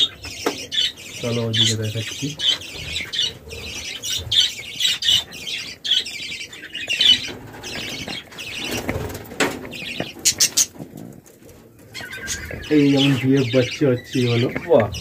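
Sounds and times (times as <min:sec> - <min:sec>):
budgerigars chirping and chattering: 0:00.0 - 0:10.8, 0:11.7 - 0:15.0.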